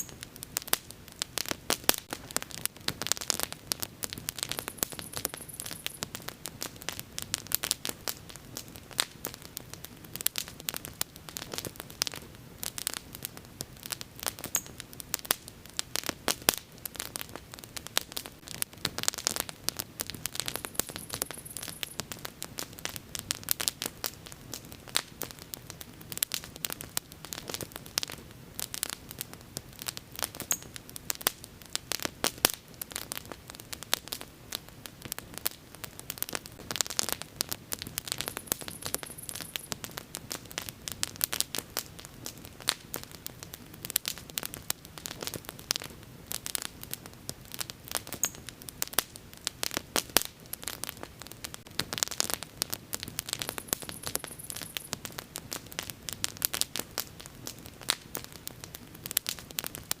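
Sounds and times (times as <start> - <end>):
bonfire crackling: 0.0 - 60.0.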